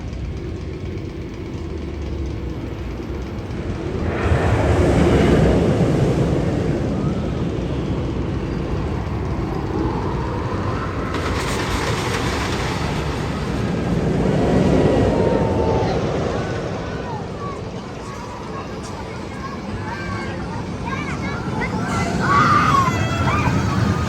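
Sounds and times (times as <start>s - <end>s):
roller coaster rumbling on track: 0.0s - 24.0s.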